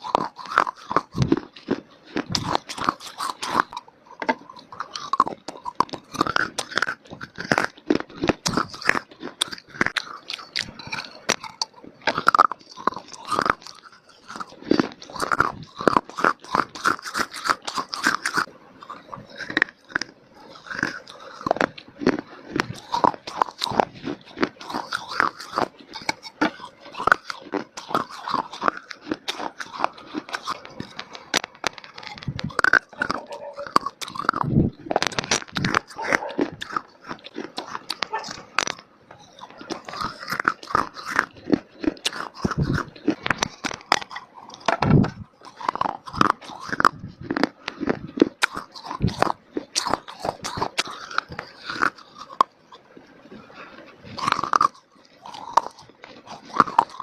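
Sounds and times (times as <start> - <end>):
person crunching and chewing clay: 0.0 - 57.0.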